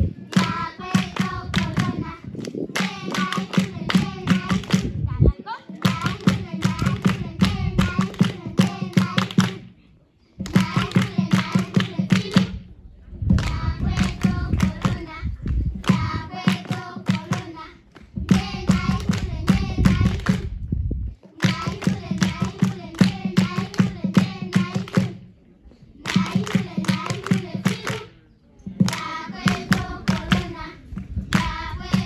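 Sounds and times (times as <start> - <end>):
people singing: 0.0 - 5.0, 5.7 - 9.7, 10.4 - 12.6, 13.4 - 20.5, 21.4 - 25.2, 26.0 - 28.1, 28.8 - 32.0
rhythmic hand clapping: 0.3 - 5.0, 5.7 - 9.7, 10.4 - 12.7, 13.3 - 20.6, 21.4 - 25.3, 26.0 - 28.2, 28.8 - 32.0.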